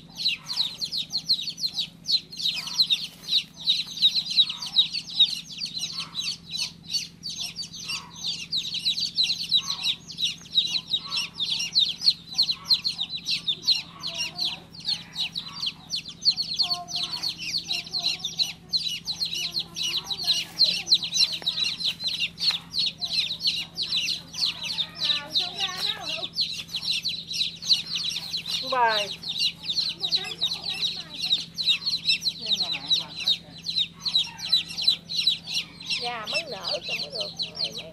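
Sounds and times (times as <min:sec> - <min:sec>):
baby chicks peeping: 0:00.0 - 0:37.9
steady low hum: 0:00.0 - 0:37.9.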